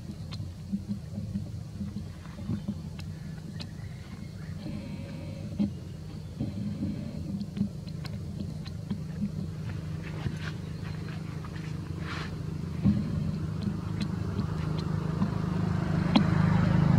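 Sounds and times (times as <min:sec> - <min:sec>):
motor engine humming: 0:00.0 - 0:16.9.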